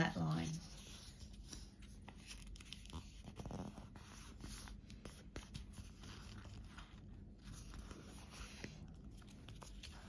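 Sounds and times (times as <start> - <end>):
paper rustling and folding: 0.0 - 10.0.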